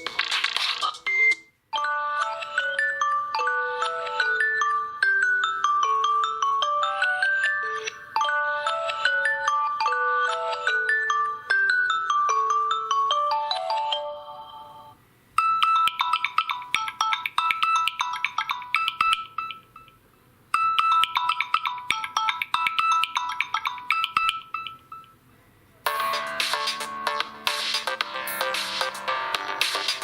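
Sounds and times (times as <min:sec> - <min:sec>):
fuller phone ringtone: 0:01.0 - 0:25.2
phone ringtone melody: 0:01.0 - 0:25.2, 0:25.9 - 0:30.0.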